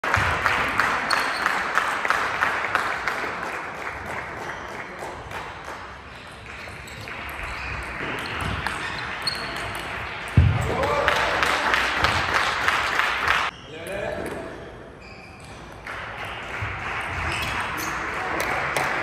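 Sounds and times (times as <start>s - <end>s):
large hall noise: 0.0s - 19.0s.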